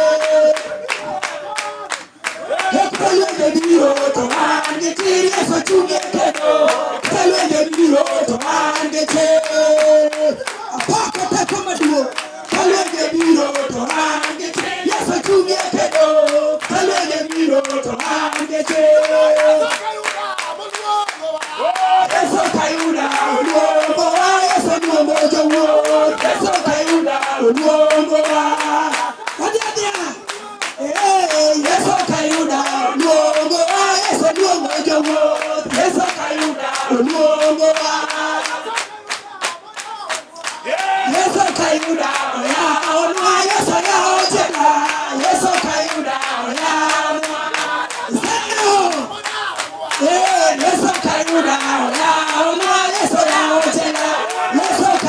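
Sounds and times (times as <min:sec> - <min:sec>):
group of voices singing: 0:00.0 - 0:55.0
steady hand clapping: 0:00.0 - 0:55.0.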